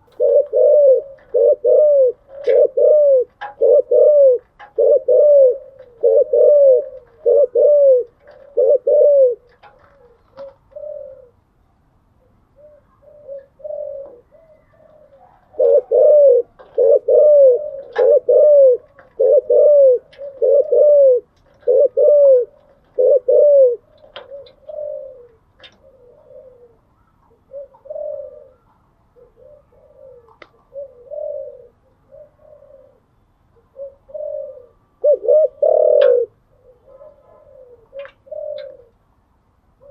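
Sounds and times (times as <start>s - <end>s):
doves cooing: 0.0s - 11.5s, 12.2s - 39.9s.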